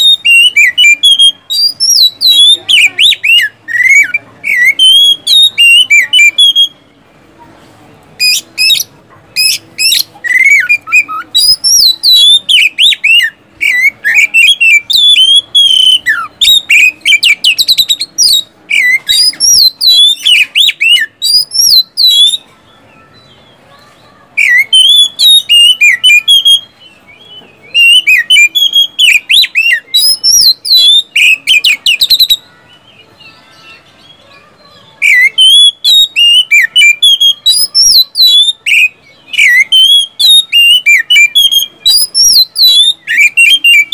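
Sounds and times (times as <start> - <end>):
songbird singing loudly: 0.0 - 6.9, 8.2 - 43.9.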